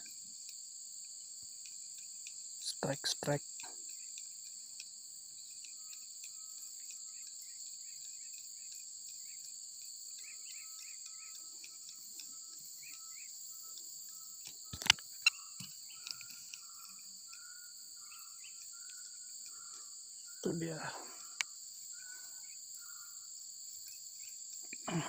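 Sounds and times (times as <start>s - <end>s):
crickets and insects chorus: 0.0s - 25.0s.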